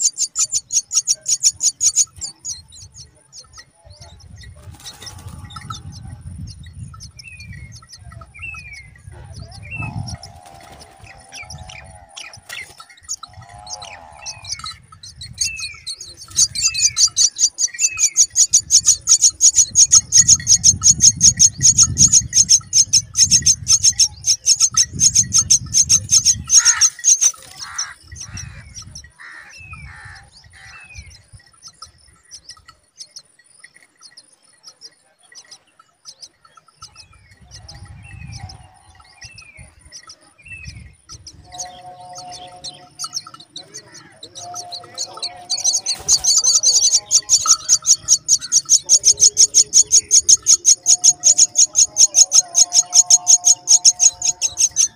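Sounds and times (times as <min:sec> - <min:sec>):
nestlings begging calls: 0:00.0 - 0:34.6, 0:35.3 - 0:54.9.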